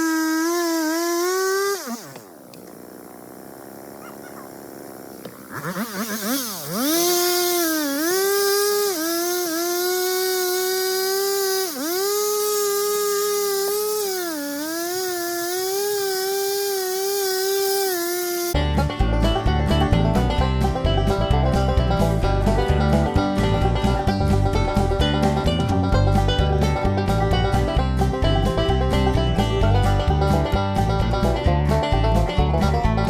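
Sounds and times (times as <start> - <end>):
chainsaw revving and cutting: 0.0 - 33.0.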